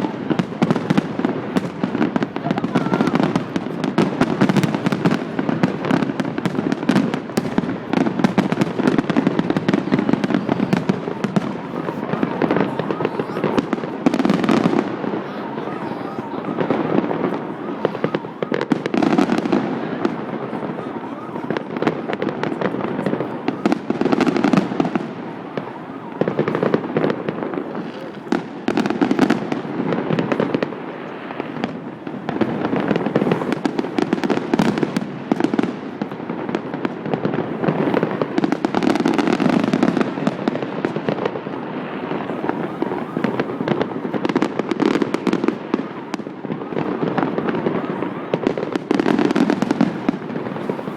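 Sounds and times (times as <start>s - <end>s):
deep fireworks booms: 0.0s - 50.9s
fireworks bangs: 0.0s - 50.9s.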